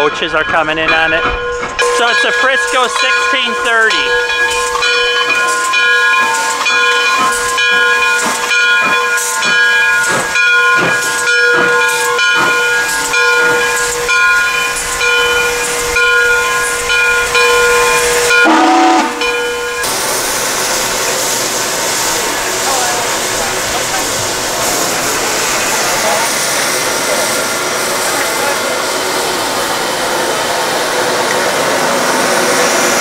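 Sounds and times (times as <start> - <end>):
locomotive bell ringing: 0.0 - 33.0
steam hissing: 2.2 - 33.0.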